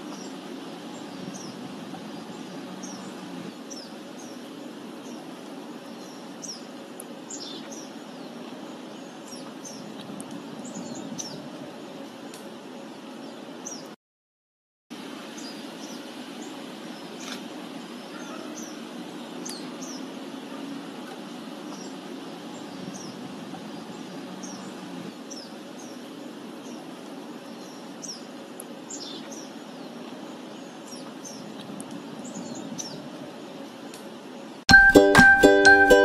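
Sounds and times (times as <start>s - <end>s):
small birds chirping: 0.0s - 14.0s, 15.2s - 34.6s.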